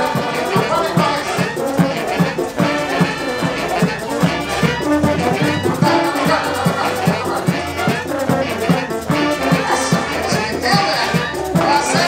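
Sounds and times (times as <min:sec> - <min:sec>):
latin band with brass horns: 0:00.0 - 0:12.0.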